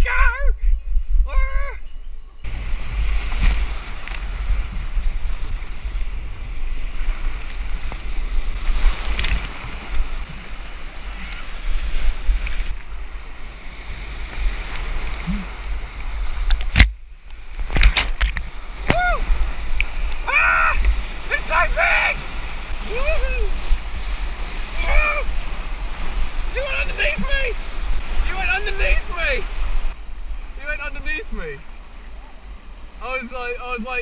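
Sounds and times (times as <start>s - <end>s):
wind buffeting microphone: 0.0s - 33.0s
rushing white water: 2.5s - 34.0s
water splashes: 2.5s - 34.0s.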